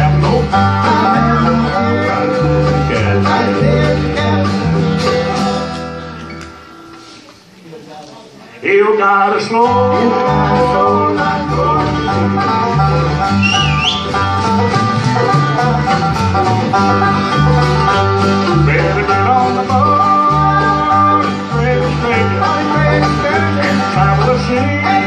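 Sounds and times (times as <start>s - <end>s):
upright bass low notes: 0.0s - 6.6s, 9.0s - 25.0s
bluegrass band playing: 0.0s - 7.5s, 8.5s - 25.0s.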